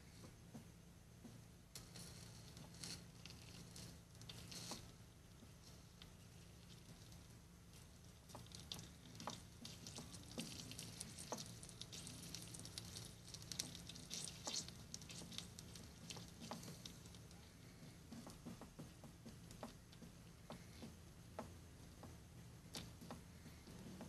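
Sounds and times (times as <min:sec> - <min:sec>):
steady low hum: 0:00.0 - 0:24.0
solder crackling and sizzling: 0:01.2 - 0:20.9.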